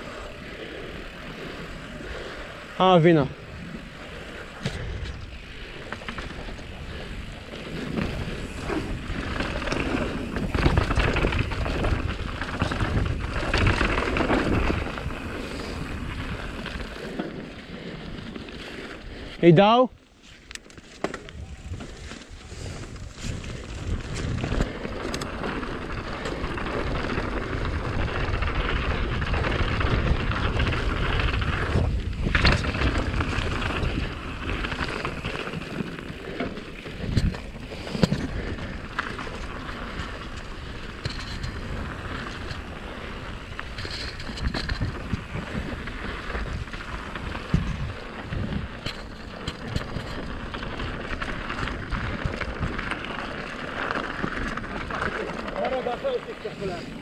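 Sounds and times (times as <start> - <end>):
wind rushing over microphone: 0.0 - 19.7, 21.3 - 57.0
bike tyres rumbling over gravel: 0.0 - 57.0.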